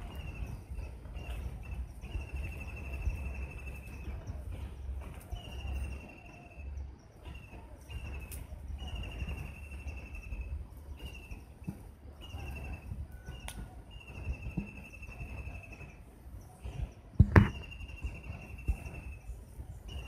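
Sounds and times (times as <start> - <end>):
bird singing high trill: 0.0 - 20.0
steady low rumble: 0.0 - 20.0.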